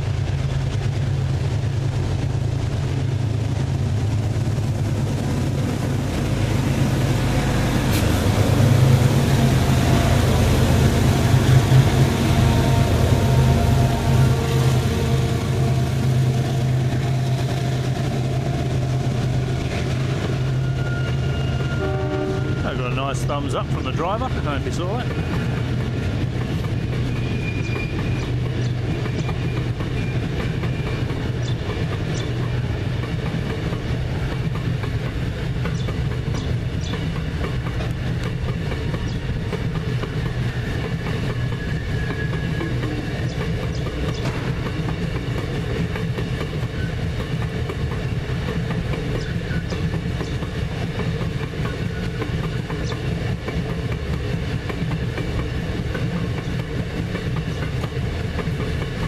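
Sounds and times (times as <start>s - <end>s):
wagons rumbling past: 0.0s - 59.0s
wheels clattering on rails: 0.0s - 59.0s.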